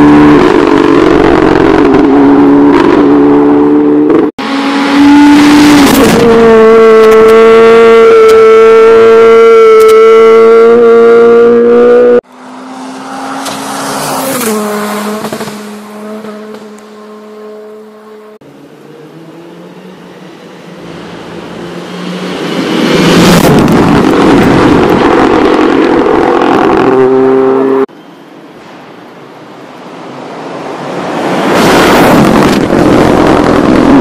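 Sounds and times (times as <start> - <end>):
rally car engines revving: 0.0 - 27.9.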